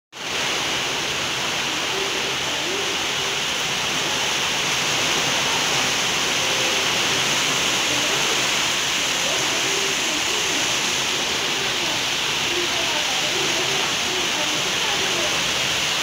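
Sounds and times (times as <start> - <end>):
heavy rain pouring: 0.1 - 16.0.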